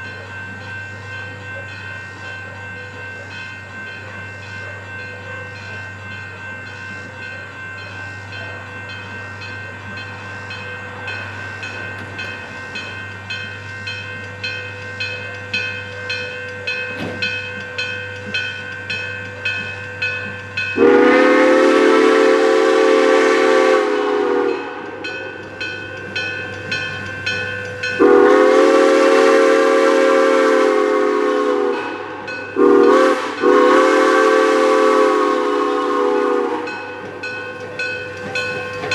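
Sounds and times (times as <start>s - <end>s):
steam locomotive chime whistle: 0.0s - 38.9s
steam locomotive exhaust beats: 0.0s - 38.9s.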